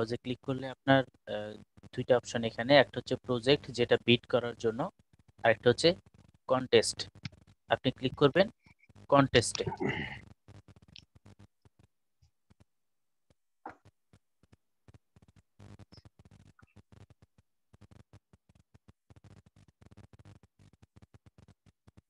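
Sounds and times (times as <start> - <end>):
faint clicks and crackles: 1.0 - 2.0, 4.5 - 12.7, 13.3 - 22.0.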